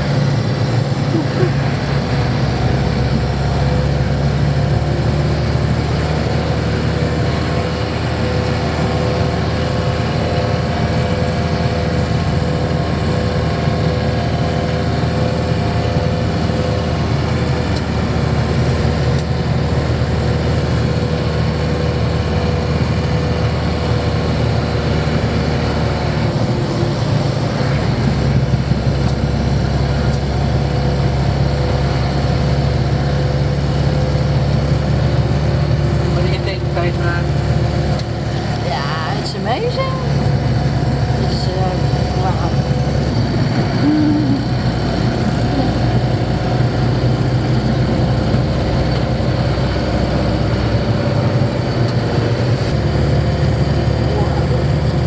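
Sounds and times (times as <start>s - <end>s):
van engine droning: 0.0s - 55.0s.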